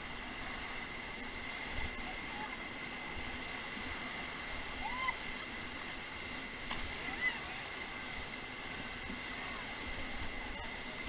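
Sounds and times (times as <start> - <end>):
whitewater rushing: 0.0 - 11.0.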